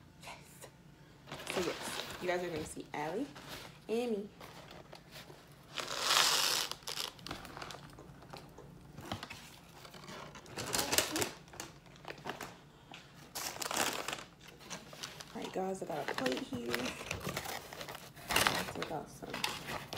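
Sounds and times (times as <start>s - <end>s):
paper crinkling: 1.3s - 19.9s.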